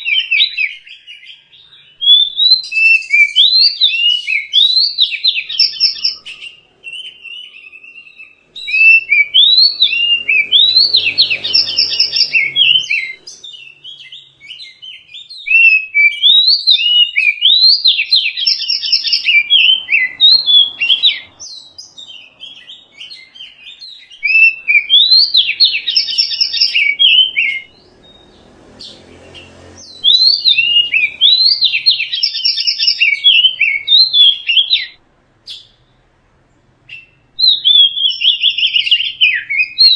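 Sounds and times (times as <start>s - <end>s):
bird singing whistled notes: 0.0s - 36.0s, 36.9s - 39.9s.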